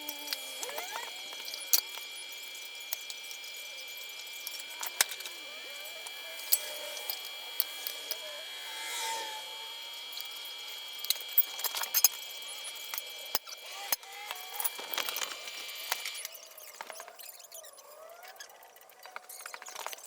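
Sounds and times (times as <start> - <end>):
steady high whine: 0.0 - 16.9.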